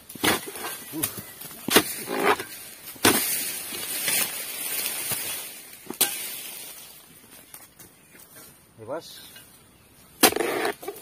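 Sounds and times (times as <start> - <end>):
dry palm fronds rustling: 0.0 - 11.0.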